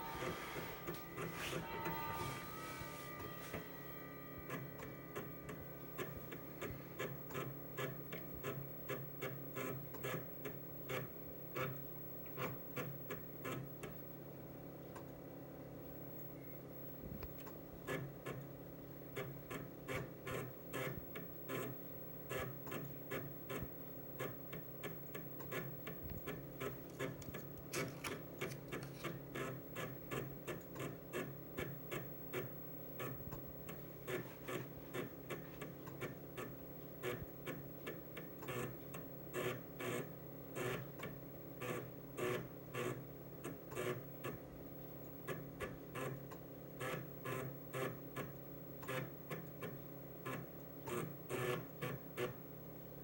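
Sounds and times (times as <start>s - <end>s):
drive motor and computer hum: 0.0s - 53.0s.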